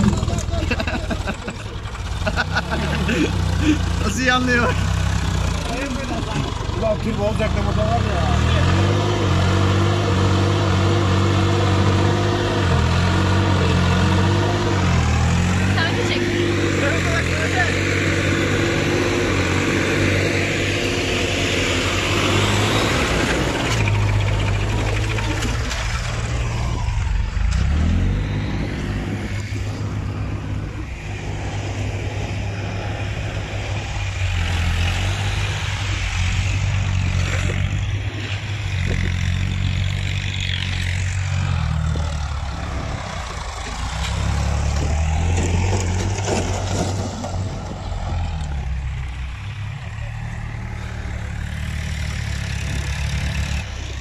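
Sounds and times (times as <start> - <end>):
tractor diesel engines revving: 0.0 - 54.0.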